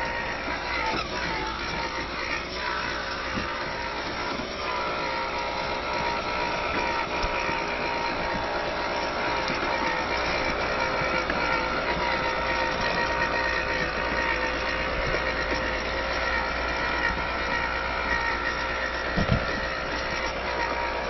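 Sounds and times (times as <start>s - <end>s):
electric motor and gearbox whining: 0.0s - 21.0s.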